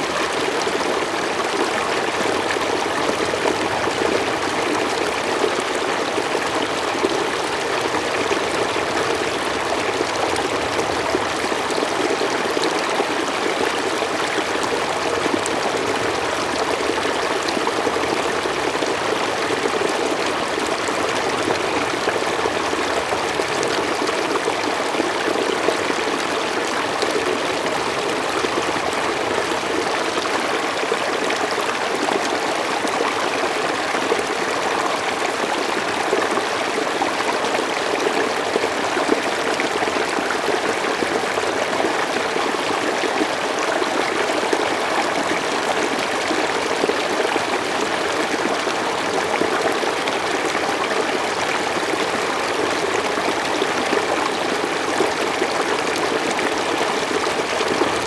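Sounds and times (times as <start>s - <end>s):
mountain stream flowing: 0.0s - 58.0s.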